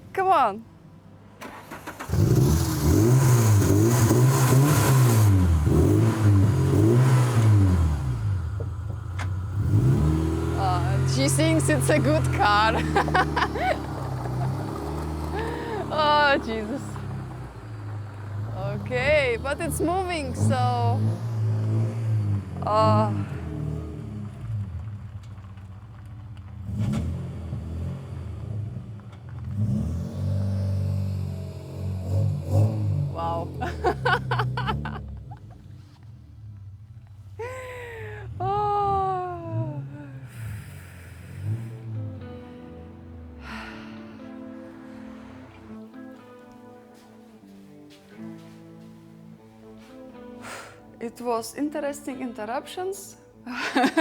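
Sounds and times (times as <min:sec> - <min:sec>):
car engine revving: 0:01.4 - 0:50.5.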